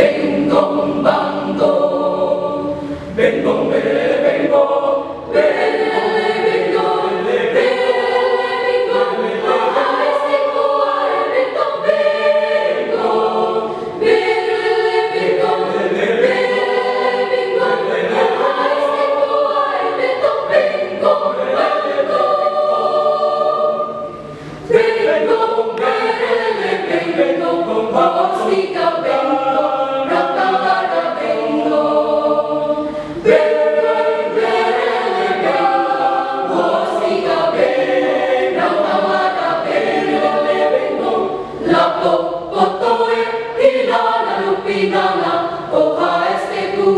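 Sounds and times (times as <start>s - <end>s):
choir singing in parts: 0.0s - 46.9s.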